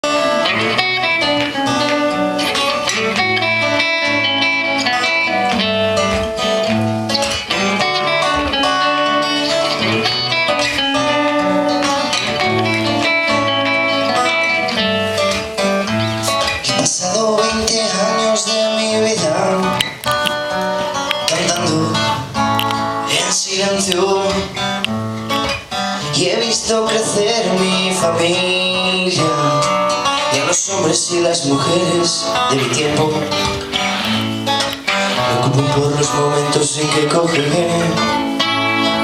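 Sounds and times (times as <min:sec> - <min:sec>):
live band guitar intro: 0:00.0 - 0:39.0.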